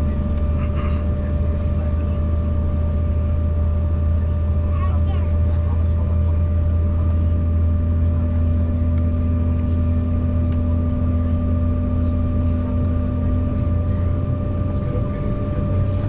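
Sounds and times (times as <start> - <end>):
airliner cabin drone: 0.0 - 16.0.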